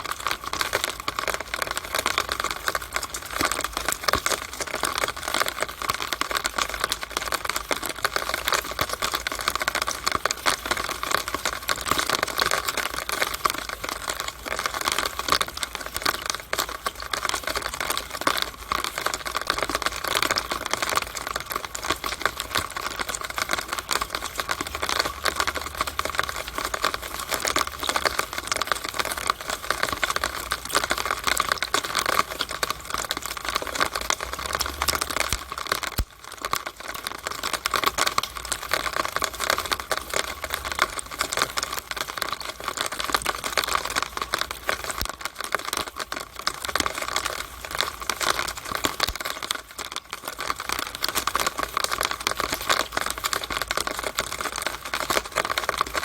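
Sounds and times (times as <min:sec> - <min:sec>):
rainwater dripping through downspout: 0:00.0 - 0:56.0.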